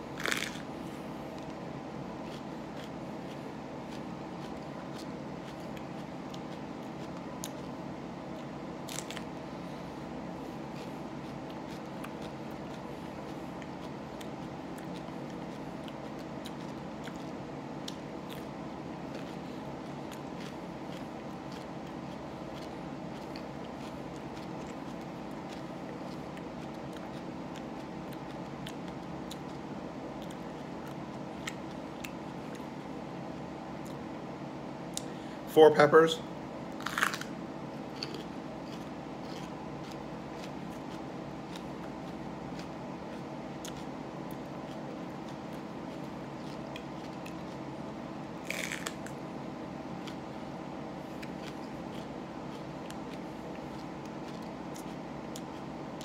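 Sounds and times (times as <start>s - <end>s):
crunchy chewing: 0.0s - 35.2s, 36.5s - 56.0s
steady background hum: 0.0s - 56.0s.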